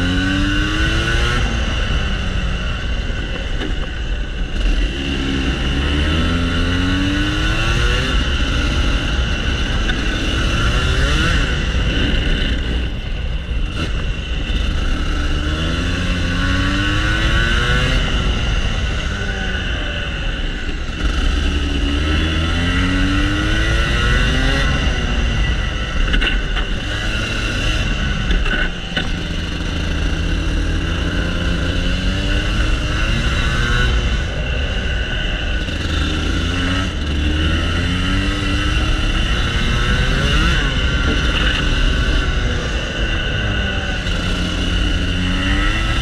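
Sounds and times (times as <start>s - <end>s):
kart engine accelerating: 0.0s - 46.0s.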